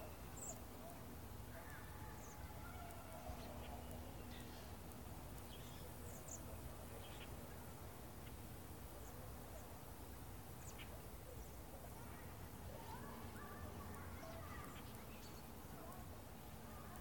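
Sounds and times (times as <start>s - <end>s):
small birds chipping and calling: 0.0s - 16.1s.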